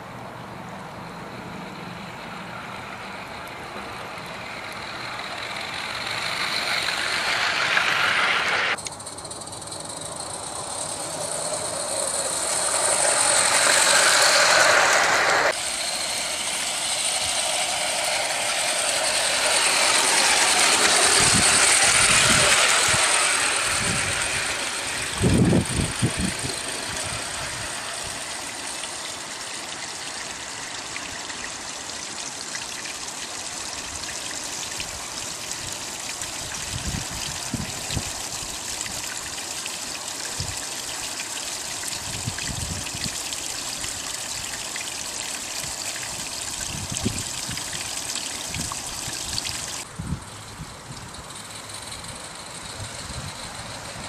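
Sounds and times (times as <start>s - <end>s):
toy steam locomotive hissing and rattling: 0.8s - 54.0s.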